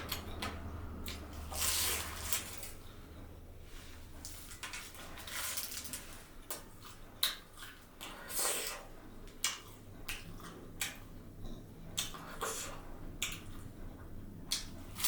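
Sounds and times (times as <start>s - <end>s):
wet chewing of food: 0.0s - 3.1s, 3.7s - 15.0s.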